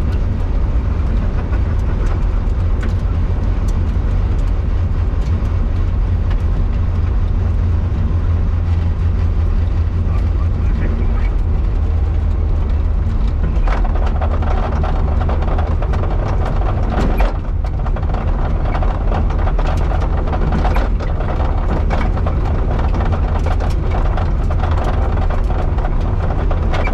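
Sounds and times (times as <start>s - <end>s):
car engine running: 0.0s - 26.9s
knocks and rattles: 0.0s - 26.9s
tyre and road noise: 0.0s - 26.9s.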